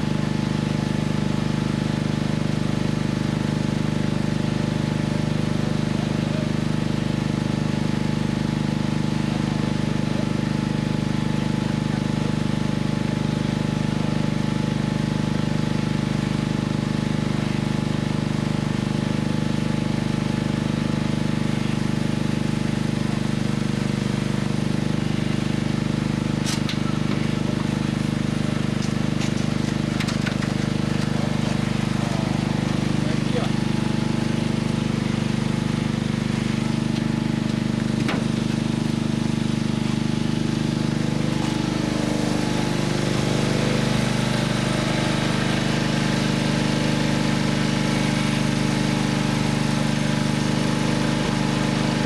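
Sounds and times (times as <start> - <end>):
engine droning steadily: 0.0 - 52.0.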